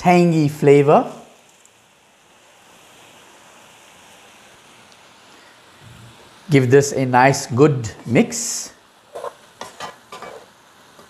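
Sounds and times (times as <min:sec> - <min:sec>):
food sizzling in frying pan: 0:00.2 - 0:11.0.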